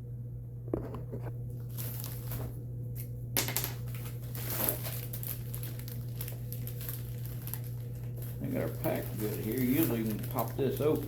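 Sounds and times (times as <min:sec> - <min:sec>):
packaging crinkling and rustling: 0:01.5 - 0:11.0.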